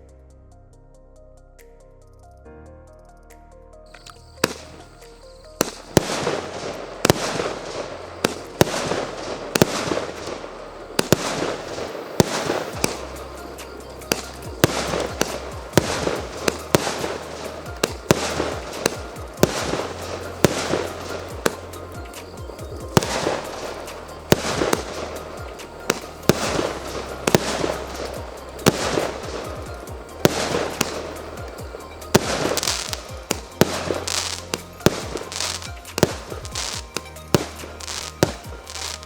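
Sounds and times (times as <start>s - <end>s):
crackling of bursting shells: 4.0s - 39.0s
fireworks bangs: 4.0s - 39.0s.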